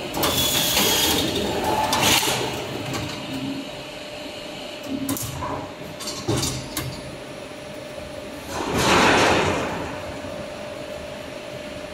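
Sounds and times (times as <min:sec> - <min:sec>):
steady machine hum: 0:00.0 - 0:11.9.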